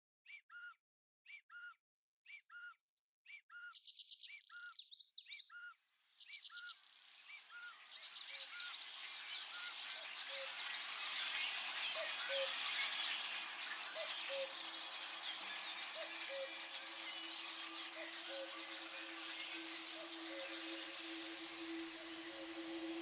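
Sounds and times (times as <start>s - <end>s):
birds singing: 1.3s - 23.0s.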